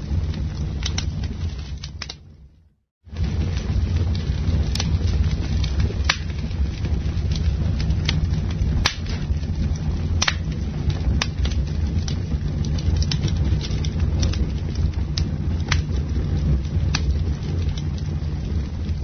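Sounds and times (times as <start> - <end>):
campfire wood crackling: 0.0 - 19.0
low fire rumble: 0.0 - 19.0.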